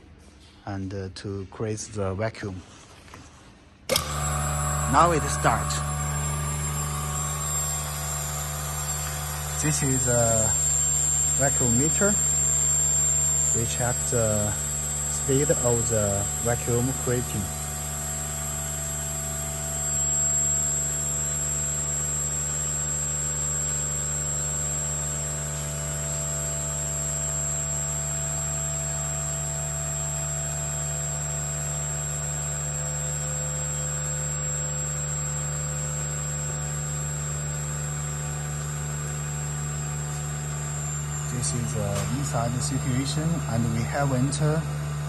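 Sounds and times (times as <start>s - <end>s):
vacuum pump humming: 3.9s - 45.0s.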